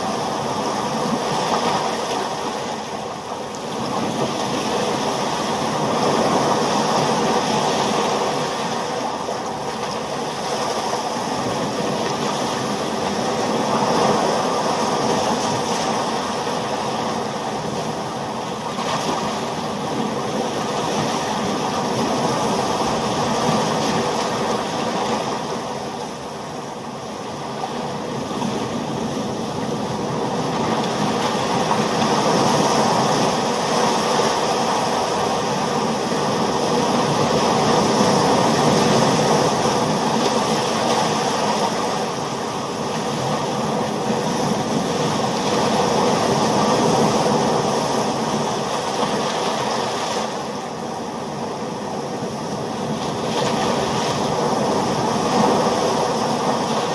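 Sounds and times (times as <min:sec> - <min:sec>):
ocean waves washing: 0:00.0 - 0:56.9.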